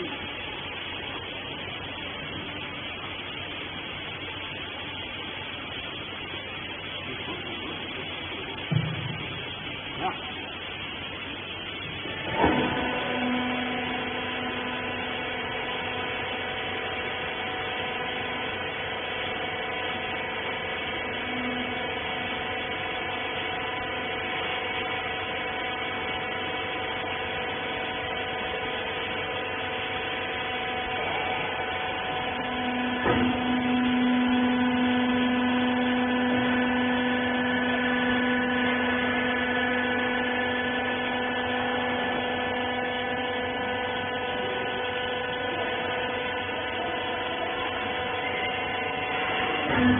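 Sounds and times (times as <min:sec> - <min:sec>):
hydraulic pump motor humming: 0:00.0 - 0:49.9.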